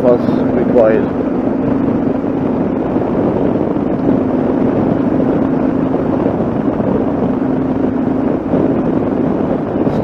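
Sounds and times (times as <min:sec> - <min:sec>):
motorcycle engine cruising: 0:00.0 - 0:10.0
wind on microphone: 0:00.0 - 0:10.0.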